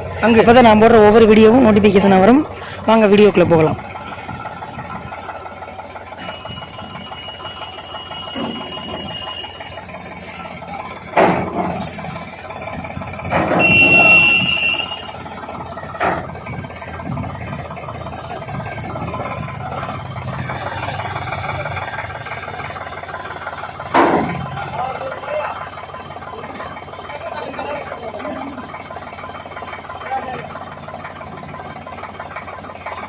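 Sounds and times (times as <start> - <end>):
diesel tractor engine idling: 0.0 - 33.0.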